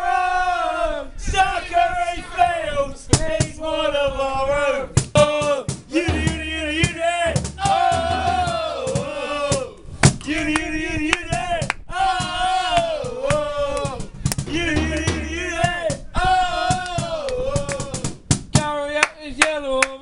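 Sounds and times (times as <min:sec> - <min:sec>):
men singing a chant: 0:00.0 - 0:20.0.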